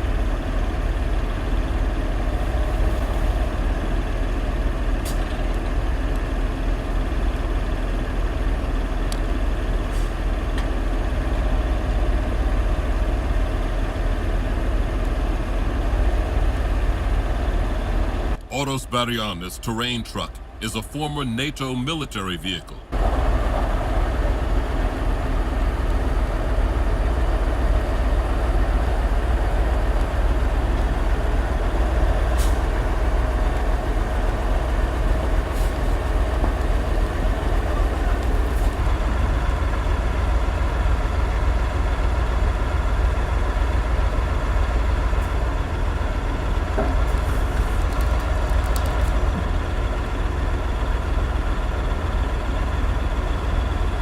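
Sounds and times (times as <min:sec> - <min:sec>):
diesel truck engine rumbling: 0:00.0 - 0:54.0.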